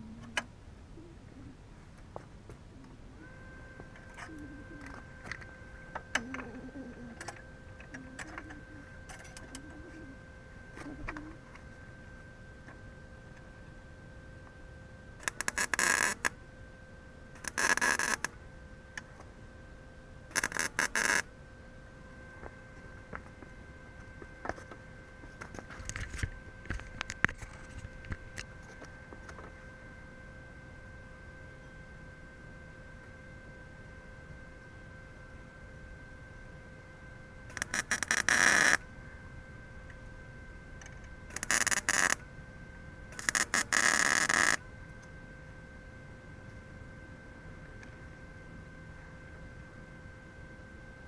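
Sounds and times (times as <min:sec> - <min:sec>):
low wavering hum: 0:00.0 - 0:51.0
welding machine high whine: 0:00.0 - 0:51.0.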